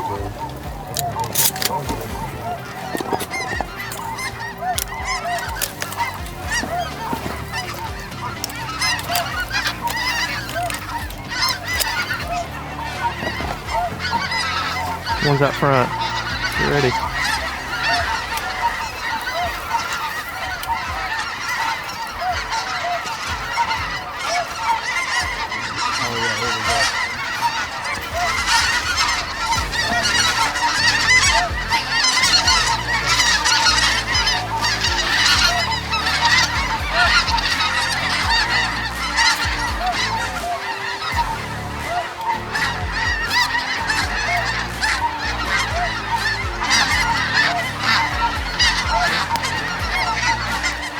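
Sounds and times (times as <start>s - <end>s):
geese honking: 0.0s - 50.9s.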